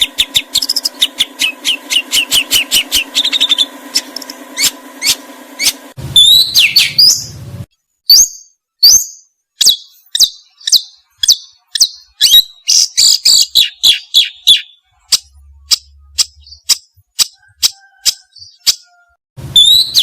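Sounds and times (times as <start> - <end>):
songbird chirping: 0.0 - 4.8, 6.2 - 7.4, 8.1 - 20.0.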